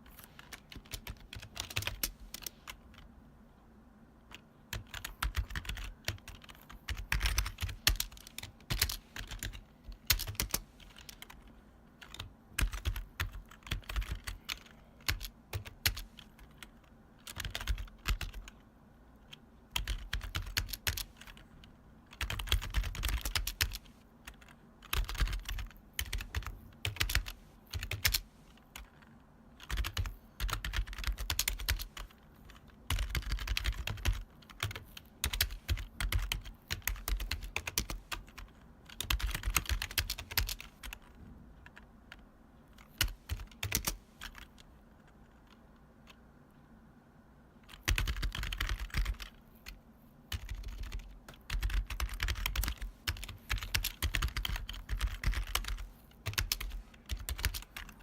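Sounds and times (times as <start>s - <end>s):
clacky keyboard typing: 0.1s - 3.1s, 4.3s - 18.6s, 19.2s - 42.2s, 42.8s - 46.2s, 47.6s - 58.0s.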